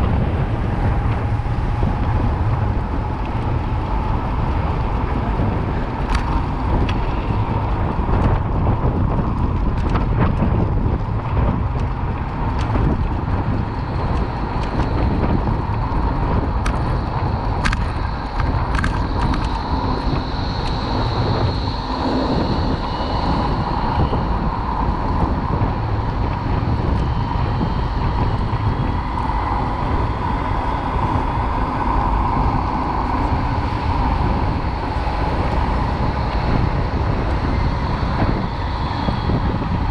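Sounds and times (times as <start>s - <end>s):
road traffic rushing: 0.0s - 39.9s.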